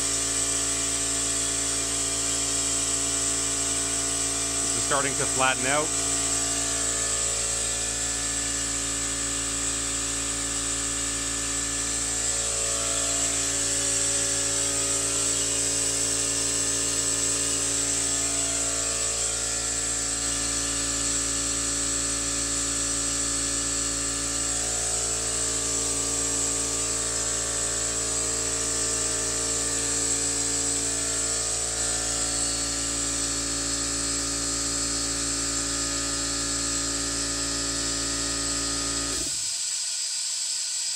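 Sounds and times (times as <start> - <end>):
air compressor motor humming: 0.0 - 40.9.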